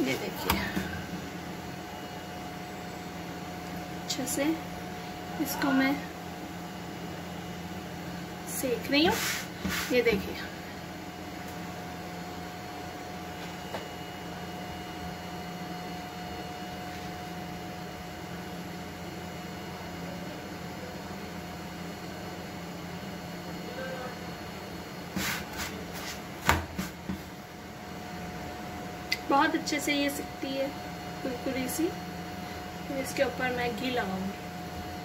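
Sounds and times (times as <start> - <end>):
steady kitchen appliance hum: 0.0 - 35.0.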